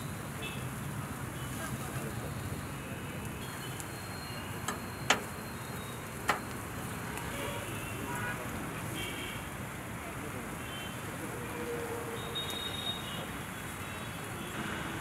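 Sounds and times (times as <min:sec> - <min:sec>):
street traffic: 0:00.0 - 0:15.0
chicken sizzling on a grill: 0:00.1 - 0:15.0.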